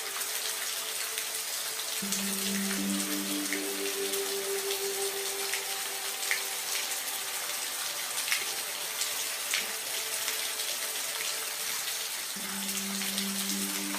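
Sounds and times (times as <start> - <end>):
rain hiss: 0.0 - 13.9.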